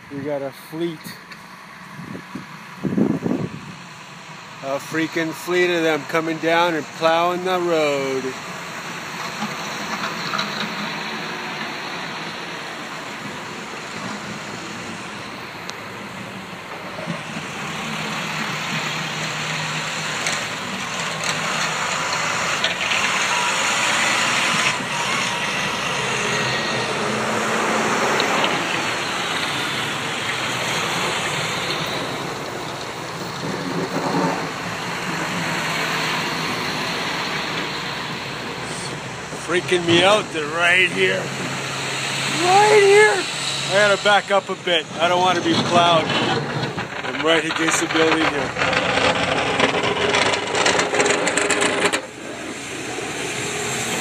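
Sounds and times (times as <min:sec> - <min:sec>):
heavy truck engine: 0:00.0 - 0:54.0
road noise: 0:00.0 - 0:54.0.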